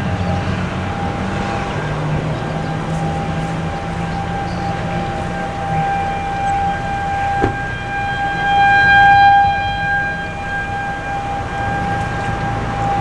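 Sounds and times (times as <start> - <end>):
low rumble: 0.0 - 13.0
warning siren steady tone: 0.0 - 13.0.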